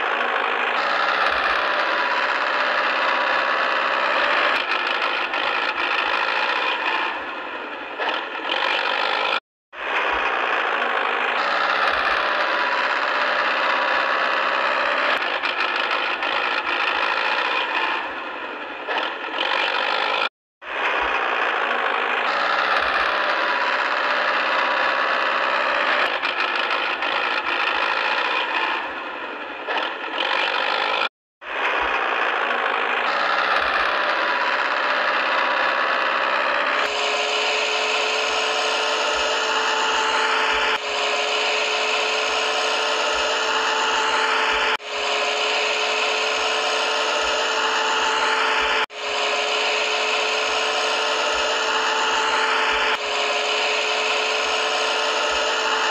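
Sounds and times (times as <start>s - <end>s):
toy motor and gearbox whining: 0.0s - 55.9s.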